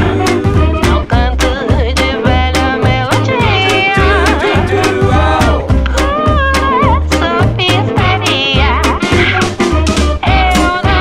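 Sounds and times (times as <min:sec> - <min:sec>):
pulsing bass line: 0:00.0 - 0:11.0
steady drum beat: 0:00.0 - 0:11.0.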